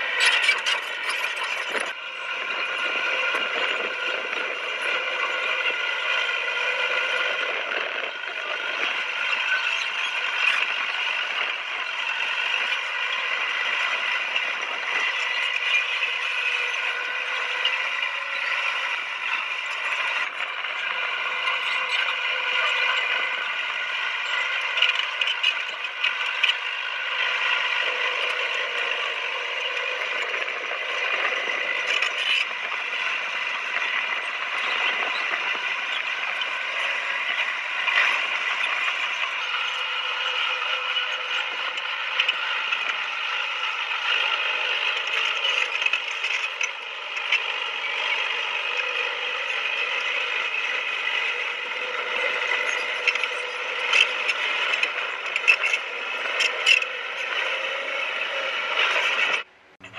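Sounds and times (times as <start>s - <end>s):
bulldozer engine running: 0.0s - 59.9s.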